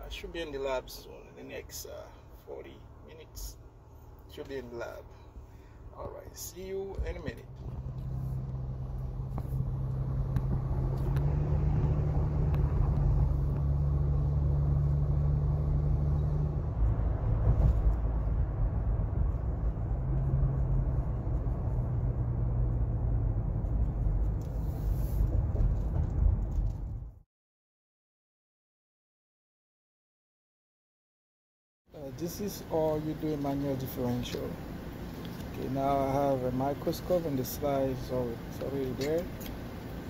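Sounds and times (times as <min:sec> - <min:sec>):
car engine and tyre rumble: 0:00.0 - 0:27.2, 0:32.0 - 0:40.0.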